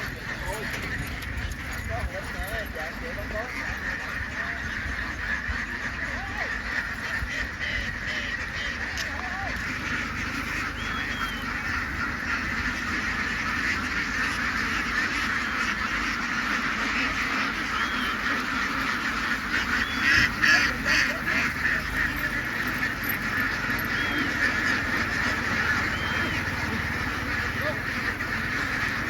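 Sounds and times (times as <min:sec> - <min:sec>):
flock of ducks quacking: 0:00.0 - 0:29.0.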